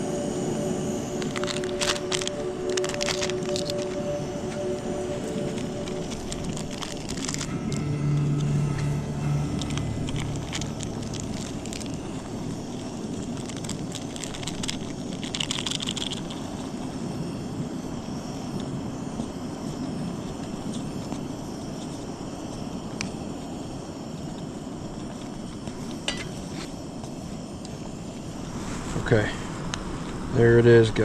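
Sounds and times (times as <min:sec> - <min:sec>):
camping stove burning: 0:00.0 - 0:31.0.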